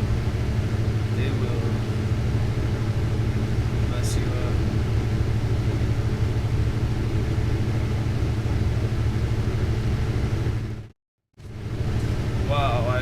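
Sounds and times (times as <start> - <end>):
torch burning with low roar: 0.0 - 13.0.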